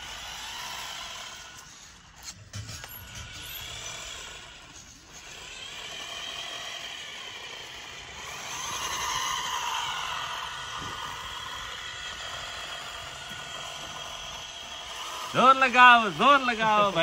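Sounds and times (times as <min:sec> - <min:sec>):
toy motor and gears whining: 0:00.0 - 0:17.0.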